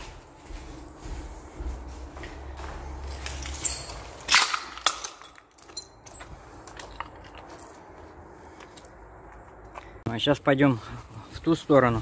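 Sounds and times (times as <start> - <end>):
footsteps on concrete and debris: 0.0 - 12.0.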